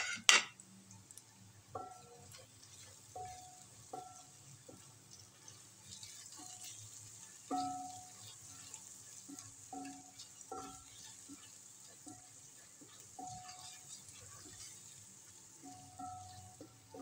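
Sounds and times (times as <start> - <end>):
faint sizzle: 0.0 - 17.0.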